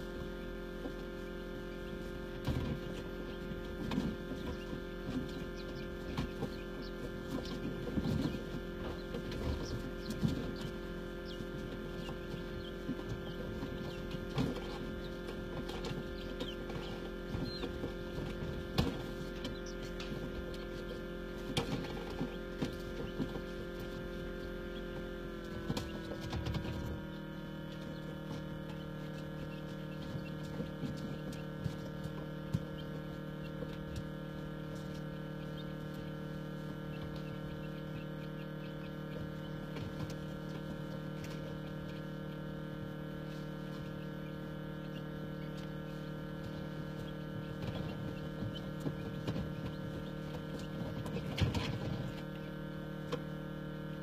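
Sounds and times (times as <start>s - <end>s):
chick clicks and peeps: 0.0s - 54.0s
incubator humming: 0.0s - 54.0s.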